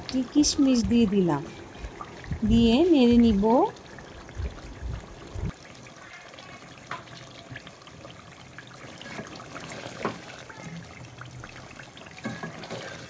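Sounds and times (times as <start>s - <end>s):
gravy bubbling and sloshing: 0.0s - 13.0s.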